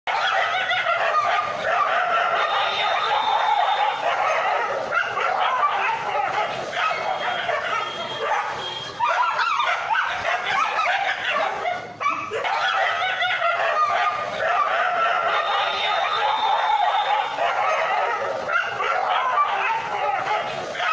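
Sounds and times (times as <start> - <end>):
dogs barking and yelping: 0.1 - 20.9.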